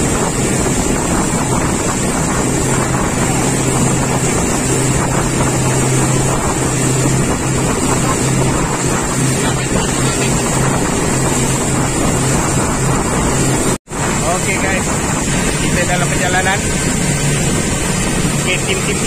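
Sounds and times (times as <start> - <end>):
motorboat engine drone: 0.0 - 19.0
water splashing along hull: 0.0 - 19.0.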